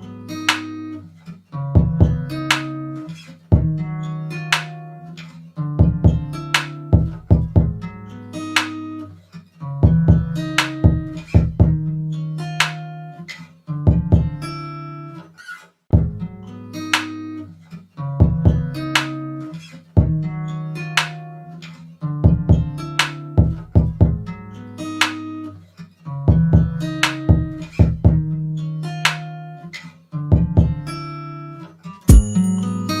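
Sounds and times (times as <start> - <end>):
plucked guitar music with beat: 0.0 - 33.0.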